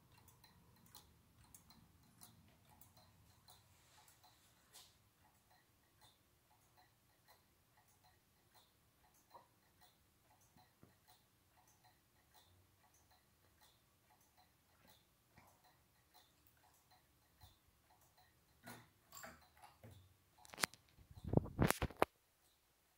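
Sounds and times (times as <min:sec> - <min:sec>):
pendulum clock ticking: 0:00.0 - 0:21.4.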